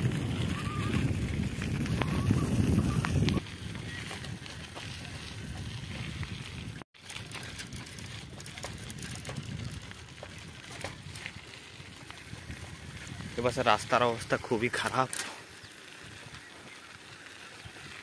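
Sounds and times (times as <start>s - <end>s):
wind rumble on microphone: 0.0s - 14.5s
bicycle rattles and clicks: 0.0s - 18.0s.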